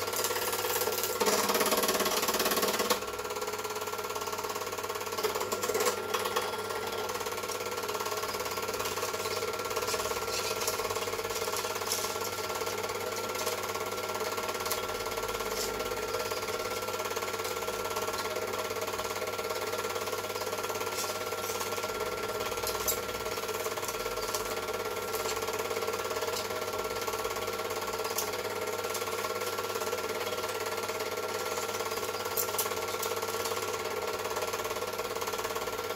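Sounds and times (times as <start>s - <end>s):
film projector whirring: 0.0s - 35.9s.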